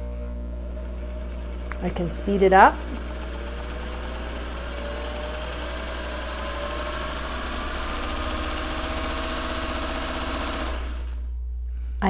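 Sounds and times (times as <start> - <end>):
sewing machine motor whine: 0.6 - 11.3.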